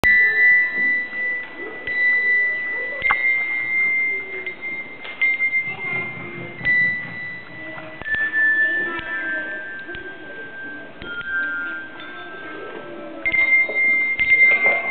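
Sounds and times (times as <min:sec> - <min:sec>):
handbells ringing: 0:00.0 - 0:14.9.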